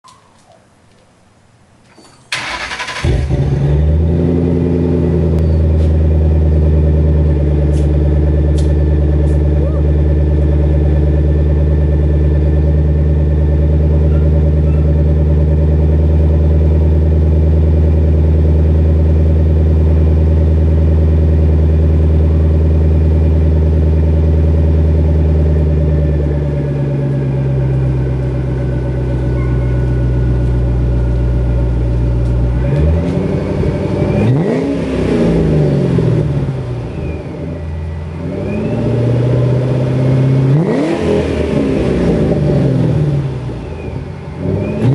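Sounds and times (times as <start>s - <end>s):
car engine idling and revving: 2.3s - 44.9s
supercharger whine: 2.3s - 44.9s.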